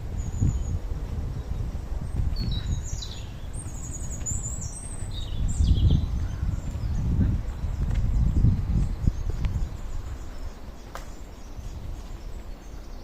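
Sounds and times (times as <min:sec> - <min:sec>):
footsteps on forest path: 0:00.0 - 0:13.0
songbird singing: 0:00.0 - 0:13.0
steady low rumble: 0:00.0 - 0:13.0.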